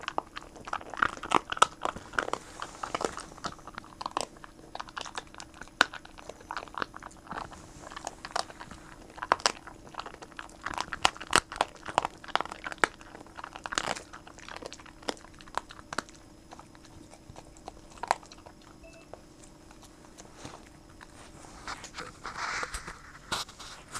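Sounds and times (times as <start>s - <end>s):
dog crunching bone: 0.0s - 23.9s.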